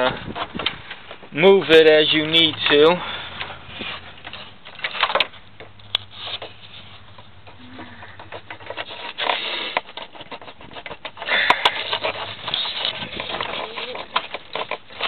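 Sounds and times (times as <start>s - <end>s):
plastic scraping: 0.0s - 15.0s.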